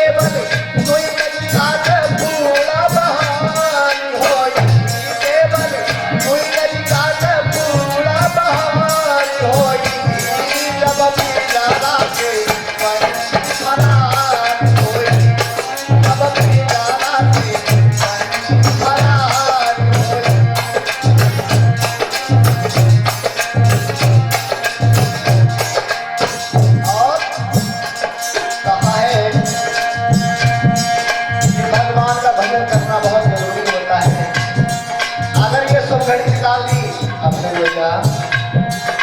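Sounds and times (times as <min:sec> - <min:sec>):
hand drum beat: 0:00.0 - 0:39.0.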